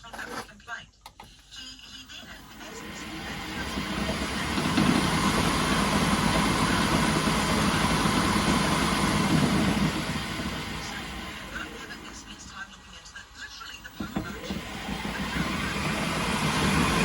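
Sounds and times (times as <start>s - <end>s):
engine running steadily: 2.3s - 17.0s.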